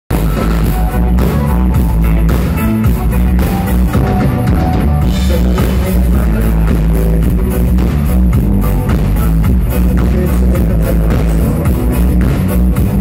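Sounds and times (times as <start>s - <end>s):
live rock band playing: 0.1s - 13.0s.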